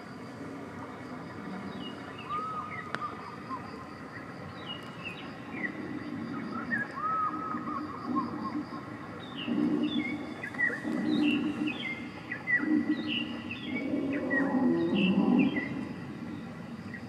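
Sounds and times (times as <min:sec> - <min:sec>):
small birds chirping: 0:01.3 - 0:17.0.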